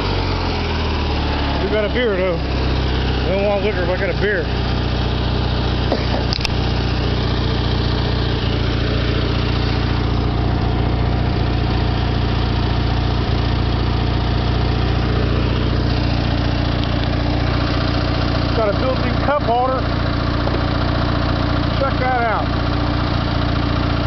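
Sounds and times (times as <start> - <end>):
riding mower engine running: 0.0 - 24.0.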